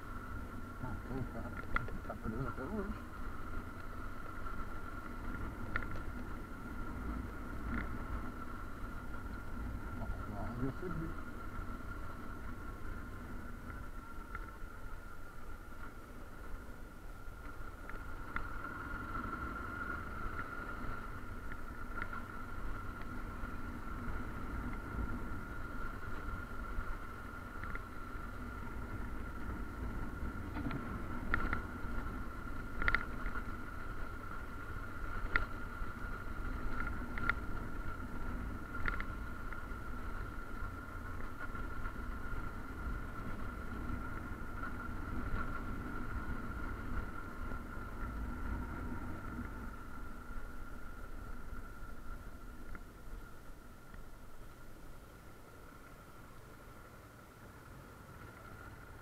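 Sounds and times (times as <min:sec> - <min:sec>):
high-pitched whine: 0:00.0 - 0:59.0
motorcycle engine on cobblestones: 0:00.0 - 0:59.0.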